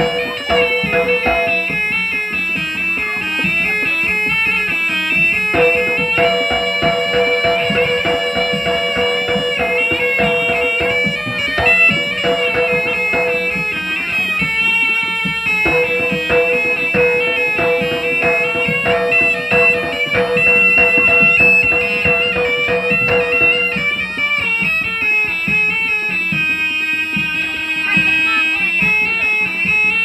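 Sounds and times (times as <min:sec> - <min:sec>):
held drone tone: 0:00.0 - 0:24.7
rapid hand drum strokes: 0:00.0 - 0:26.4
reedy wind instrument melody: 0:00.0 - 0:30.0.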